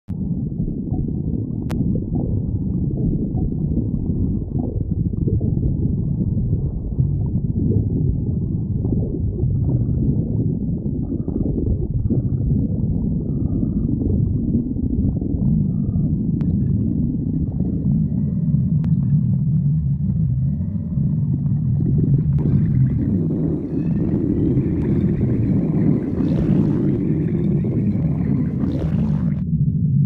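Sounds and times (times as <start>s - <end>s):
stomach growling: 0.1s - 29.5s.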